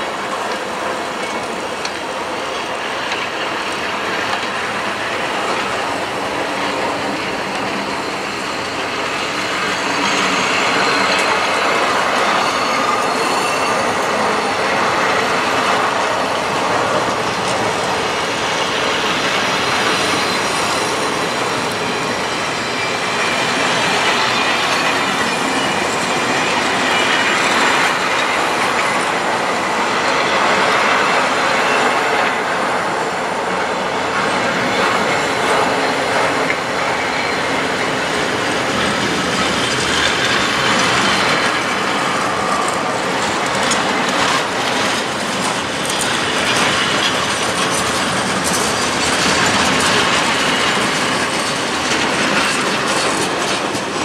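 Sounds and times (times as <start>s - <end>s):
freight train wheels rumbling: 0.0s - 54.0s
sharp train wheel clacks: 0.2s - 54.0s.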